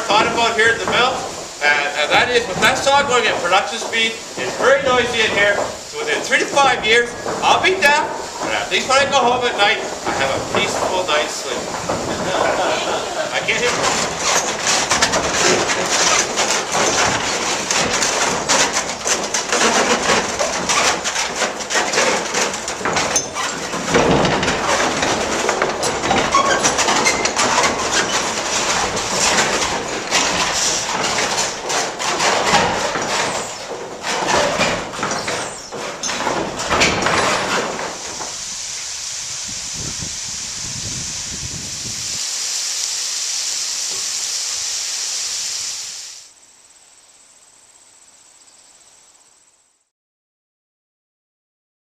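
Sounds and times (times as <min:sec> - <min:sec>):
sawmill clattering: 0:00.0 - 0:42.5
rushing water hiss: 0:00.0 - 0:48.1.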